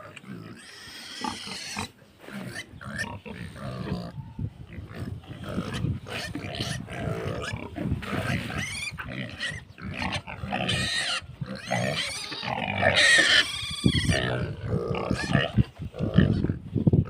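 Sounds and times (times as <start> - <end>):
pigs grunting: 0.0 - 16.6
pigs squealing: 0.0 - 16.6.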